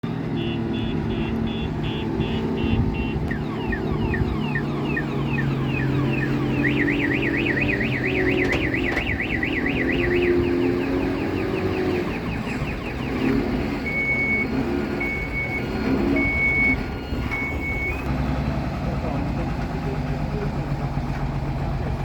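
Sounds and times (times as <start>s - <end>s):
truck reversing alarm: 0.0s - 20.7s
truck engine running: 0.0s - 22.0s.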